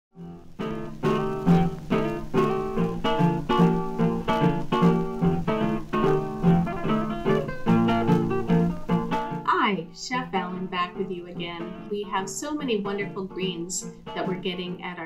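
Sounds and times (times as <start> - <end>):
acoustic guitar plucking: 0.2 - 15.0.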